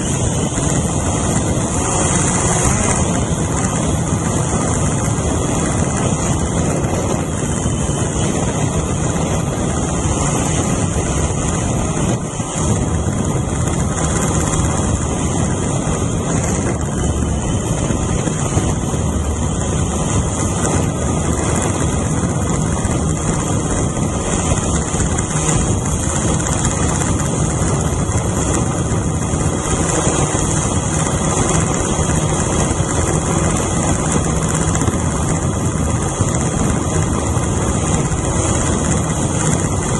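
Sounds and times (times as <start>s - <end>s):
drone motors and propellers: 0.0s - 39.9s.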